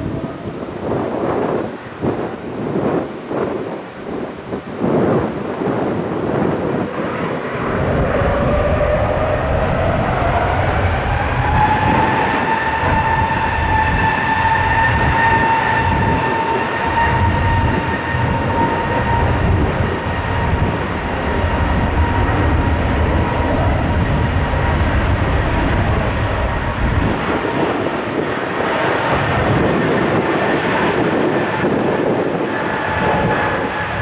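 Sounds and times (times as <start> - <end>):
high fan whine: 0.0 - 34.0
jet engines roaring: 0.0 - 34.0.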